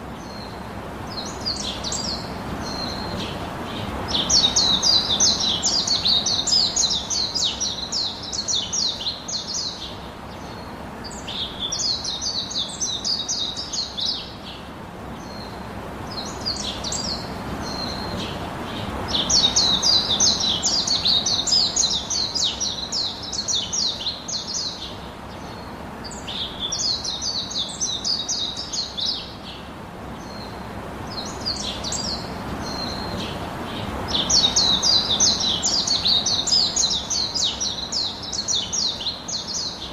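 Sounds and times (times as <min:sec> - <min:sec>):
faint background hiss: 0:00.0 - 0:39.9
small birds chirping: 0:00.0 - 0:39.9.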